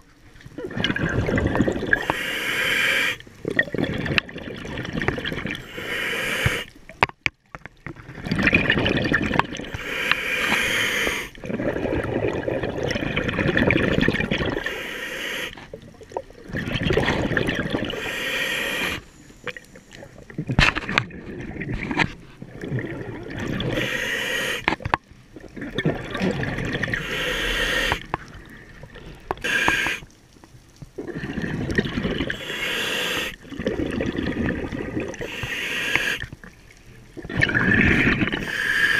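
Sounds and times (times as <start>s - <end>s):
diver exhaling bubbles through regulator: 0.6s - 6.7s, 8.1s - 24.7s, 25.3s - 30.1s, 31.0s - 36.4s, 37.2s - 38.9s.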